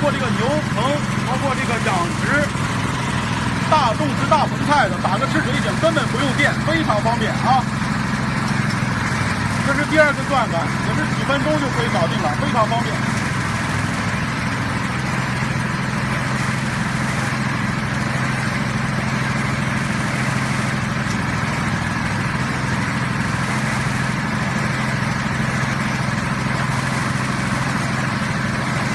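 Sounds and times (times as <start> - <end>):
drilling rig and pump engines: 0.0 - 28.9.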